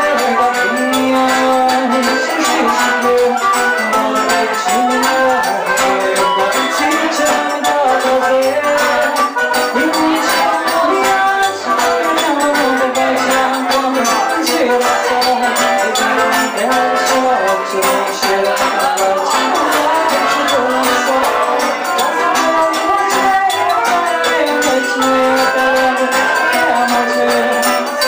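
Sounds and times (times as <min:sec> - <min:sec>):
accordion: 0:00.0 - 0:28.0
guitar: 0:00.0 - 0:28.0
hand percussion: 0:00.0 - 0:28.0.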